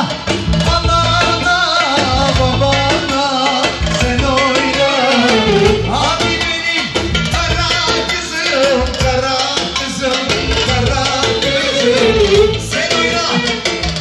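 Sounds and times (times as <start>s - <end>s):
live band dance music: 0.0s - 14.0s.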